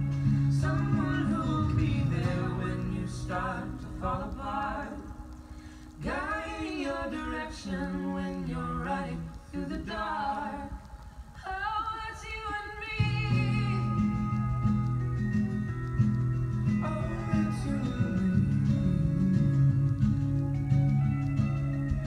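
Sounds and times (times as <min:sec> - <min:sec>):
guitar backing: 0:00.0 - 0:10.7, 0:12.8 - 0:22.0
person singing slow melody: 0:00.0 - 0:22.0.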